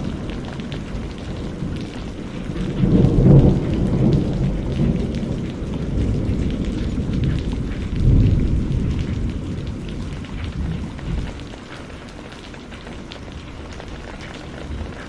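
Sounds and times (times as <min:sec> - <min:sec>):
low thunder rumble: 0:00.0 - 0:15.0
rain pattering: 0:00.0 - 0:15.0.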